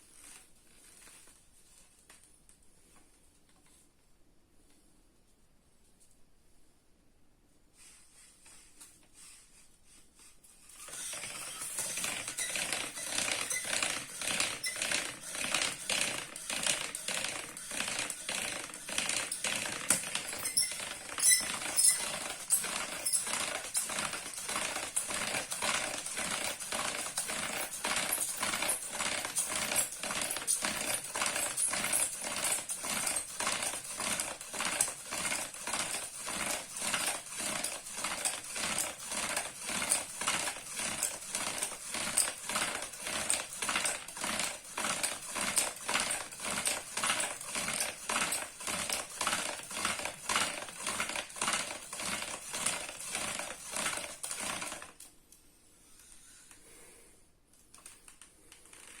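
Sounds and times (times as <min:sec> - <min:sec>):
wood-on-wood friction strokes: 0:07.8 - 0:54.8, 0:55.8 - 0:56.9.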